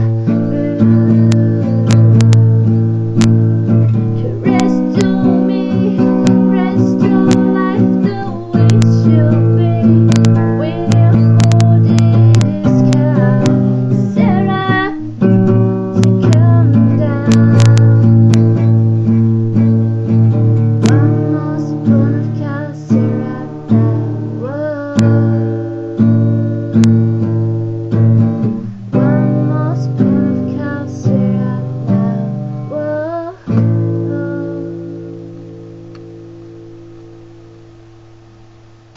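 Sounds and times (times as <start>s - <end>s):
acoustic guitar strumming chords: 0.0s - 38.9s.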